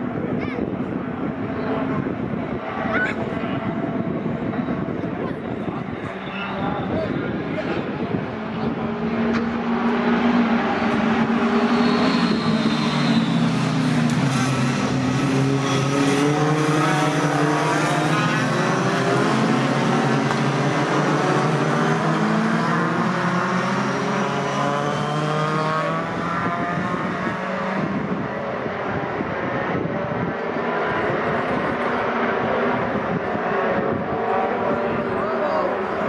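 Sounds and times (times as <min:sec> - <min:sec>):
racing truck engines accelerating: 0:01.2 - 0:36.0.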